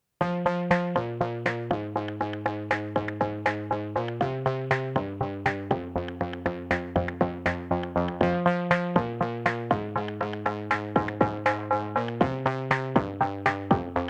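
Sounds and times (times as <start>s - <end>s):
pulsing synthesizer music: 0.2s - 14.0s.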